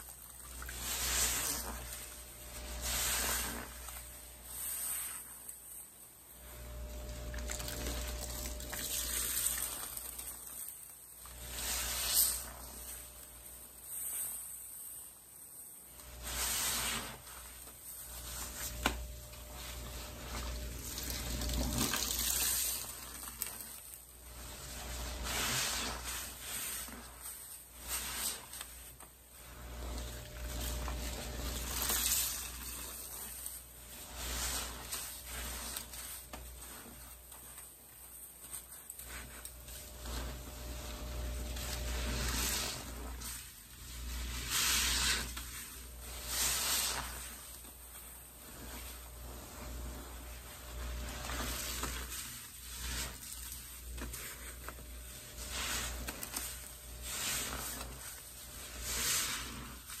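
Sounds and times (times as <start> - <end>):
sponge squelching in soapy water: 0.0 - 60.0.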